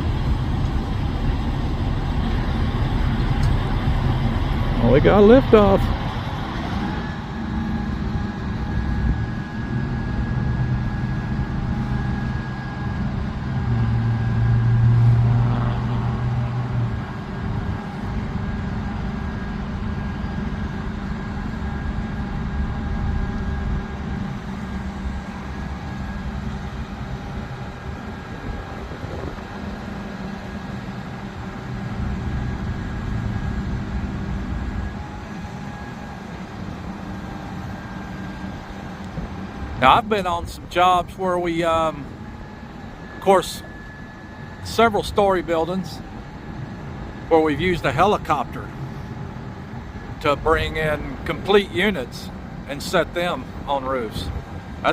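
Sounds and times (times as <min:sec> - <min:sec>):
crane engine droning under load: 0:00.0 - 0:54.9.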